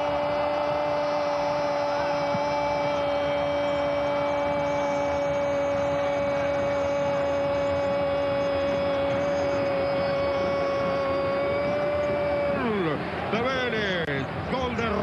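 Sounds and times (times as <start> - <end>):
loud steady hum: 0.0 - 15.0
stadium crowd cheering: 0.0 - 15.0.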